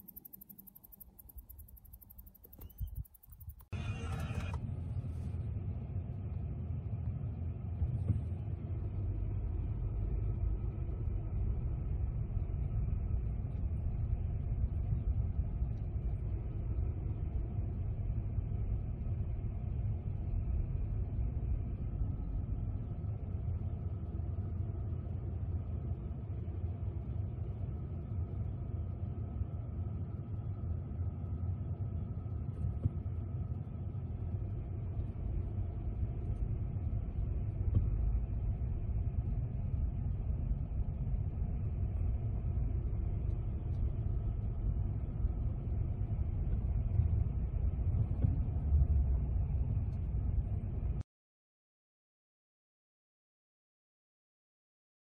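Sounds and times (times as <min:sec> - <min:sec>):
faint steady tones: 0:00.0 - 0:51.0
steady low rumble: 0:00.0 - 0:51.0.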